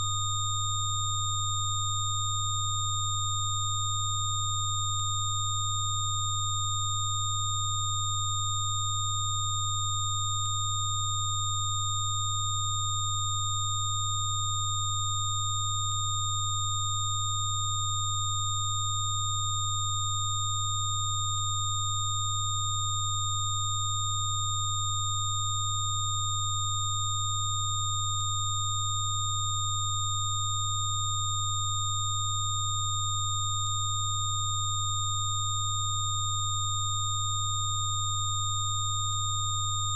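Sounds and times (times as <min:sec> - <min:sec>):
low sine hum: 0:00.0 - 0:39.9.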